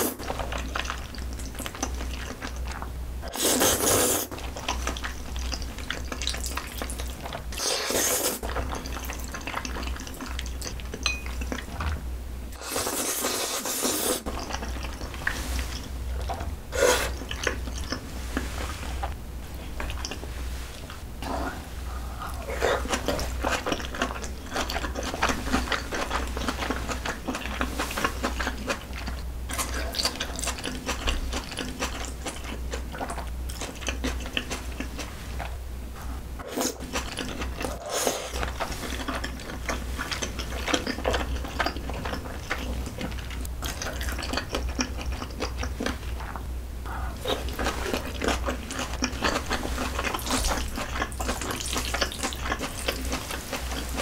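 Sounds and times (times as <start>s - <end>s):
steady low hum: 0.0s - 54.0s
wet chewing and slurping noodles: 0.0s - 54.0s.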